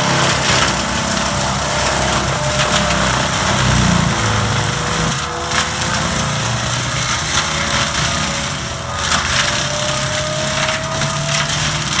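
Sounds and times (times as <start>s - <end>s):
mulcher grinding and splintering wood: 0.0s - 12.0s
rising mechanical whine: 0.0s - 12.0s
tracked loader engine running: 0.0s - 12.0s
wood cracking: 0.0s - 12.0s.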